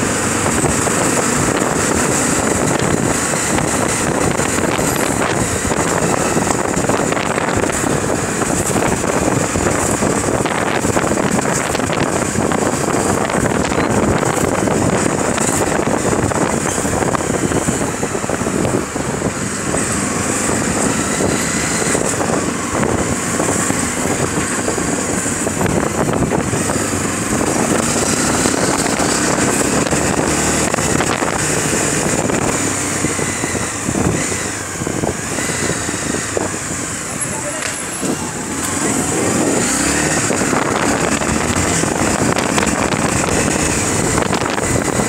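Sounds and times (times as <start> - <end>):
motorcycle engine running: 0.0 - 45.0
wind rush on microphone: 0.0 - 45.0.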